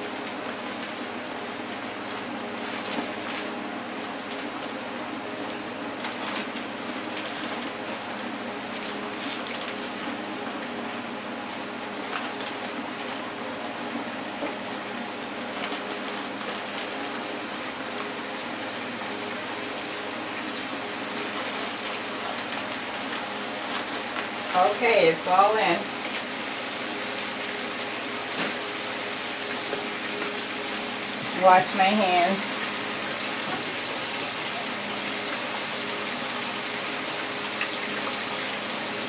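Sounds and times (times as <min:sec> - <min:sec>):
oil crackles: 0:00.0 - 0:31.8, 0:32.4 - 0:39.0
hot oil sizzling: 0:00.0 - 0:39.0.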